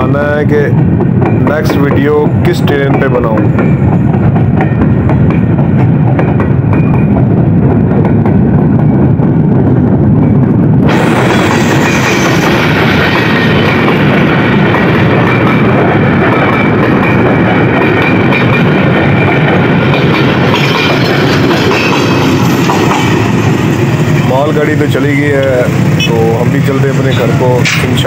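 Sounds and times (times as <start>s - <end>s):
train wheels rumbling and rattling: 0.0s - 28.0s.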